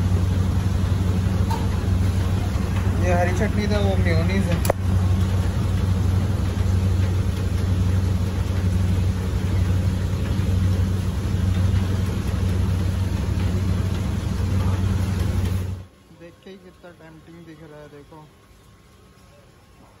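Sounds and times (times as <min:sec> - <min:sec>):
machine humming and hissing: 0:00.0 - 0:20.0.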